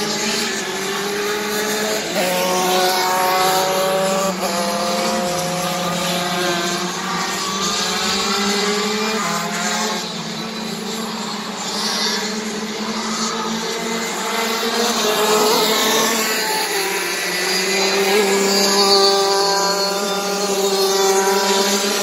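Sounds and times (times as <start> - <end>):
racing kart engines: 0.0 - 22.0.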